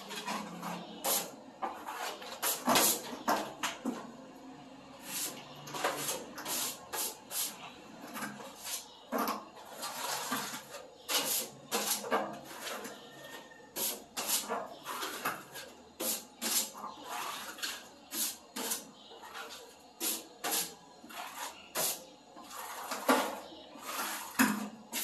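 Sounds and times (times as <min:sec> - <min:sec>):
hand scraper scraping ceiling: 0:00.0 - 0:03.4, 0:05.0 - 0:25.0.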